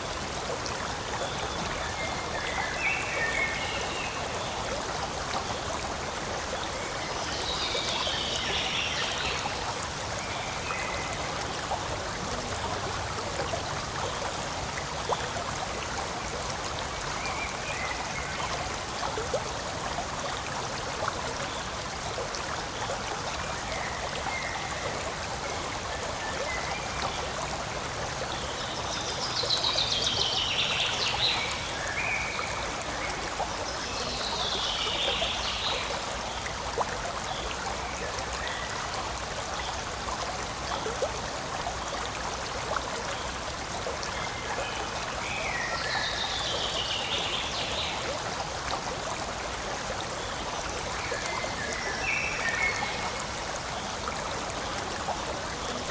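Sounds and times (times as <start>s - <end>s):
forest stream trickling: 0.0s - 55.9s.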